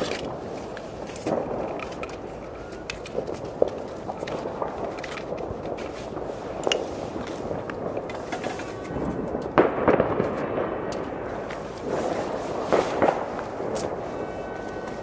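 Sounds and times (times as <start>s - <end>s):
firecrackers crackling: 0.0s - 15.0s
firework bangs: 0.0s - 15.0s.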